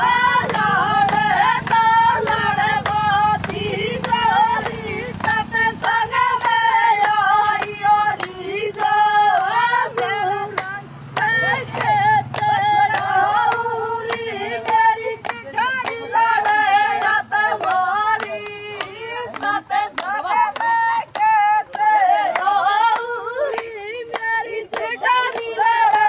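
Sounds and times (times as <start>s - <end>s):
high voice singing devotional song: 0.0s - 26.0s
sharp handclaps: 0.0s - 26.0s.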